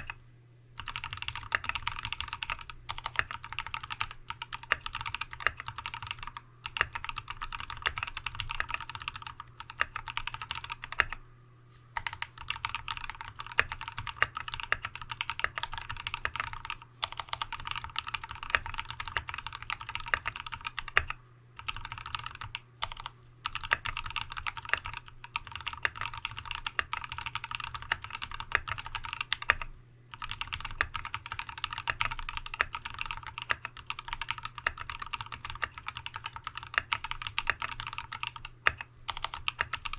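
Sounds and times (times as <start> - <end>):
mechanical keyboard typing: 0.0 - 0.2, 0.8 - 11.2, 12.0 - 39.9.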